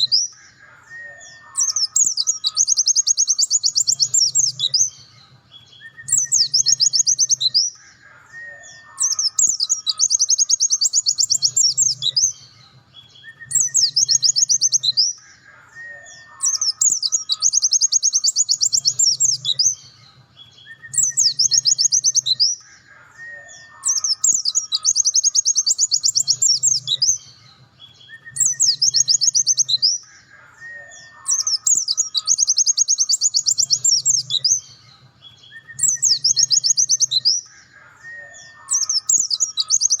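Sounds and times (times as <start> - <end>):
bird high-pitched trilled song: 0.0 - 40.0.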